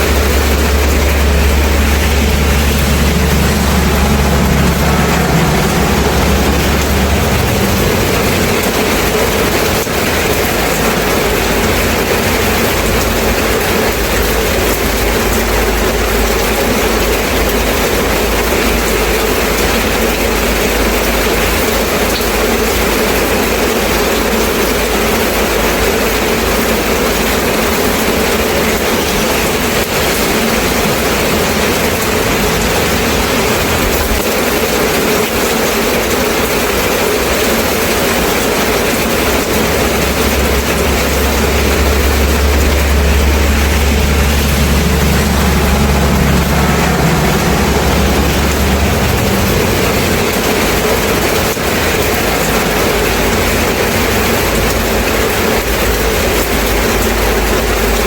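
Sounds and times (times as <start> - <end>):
passing vehicle engine rumble: 0.0 - 58.0
steady rain: 0.0 - 58.0.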